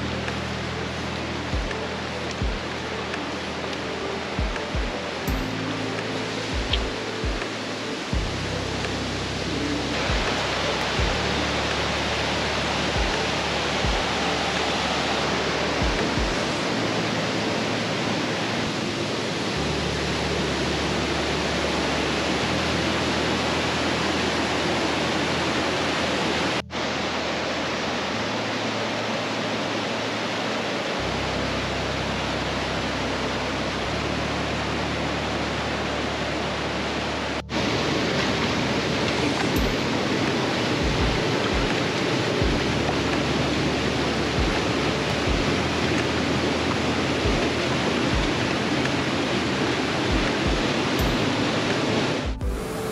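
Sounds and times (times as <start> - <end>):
mountain stream rapids rushing: 0.0 - 52.9.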